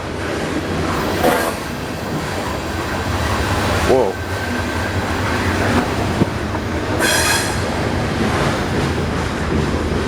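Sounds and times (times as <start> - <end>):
freight train rumbling past: 0.0 - 10.0
metal wheel squeal: 0.8 - 9.1.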